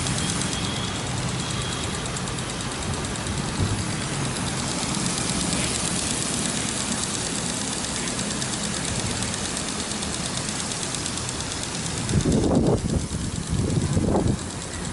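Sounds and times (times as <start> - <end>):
sprinkler spray on roof: 0.0 - 14.9.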